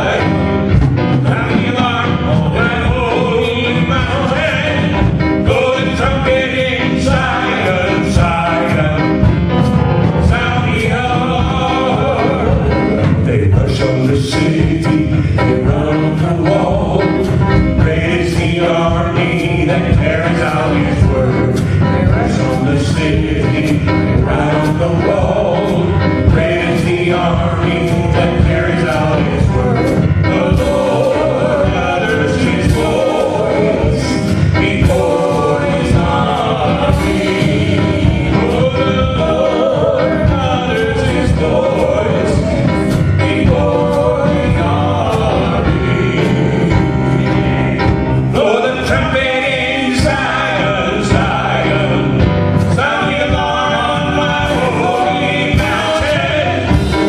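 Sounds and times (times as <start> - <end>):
band with steady drum beat: 0.0 - 57.0
choir singing gospel: 0.0 - 57.0.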